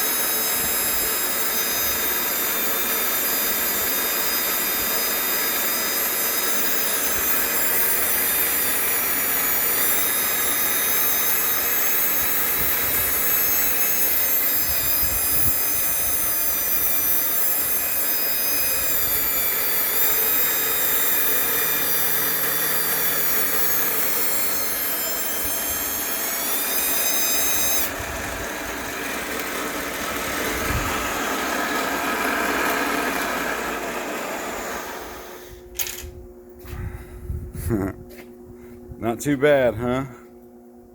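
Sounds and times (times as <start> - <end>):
milling machine with high whine: 0.0 - 37.4.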